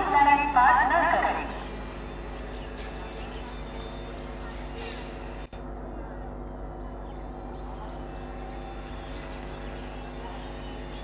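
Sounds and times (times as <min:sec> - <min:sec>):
electric train low hum: 0:00.0 - 0:11.0.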